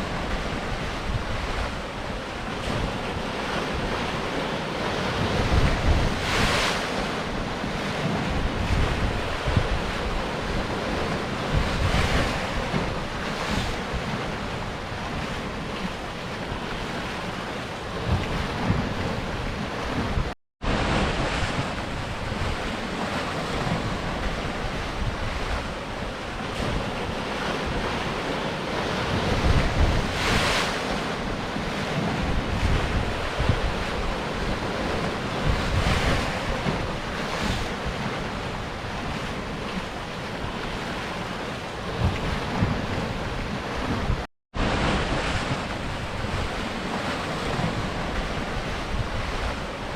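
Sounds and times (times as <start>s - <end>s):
waves washing against rocks: 0.0s - 49.9s.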